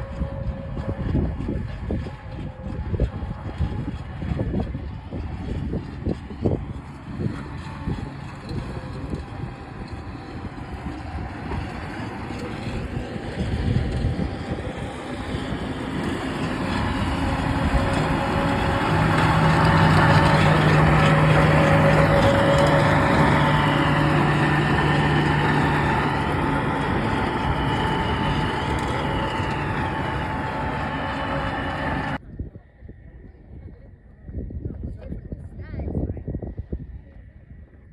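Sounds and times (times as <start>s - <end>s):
train engine hum: 1.8s - 32.2s.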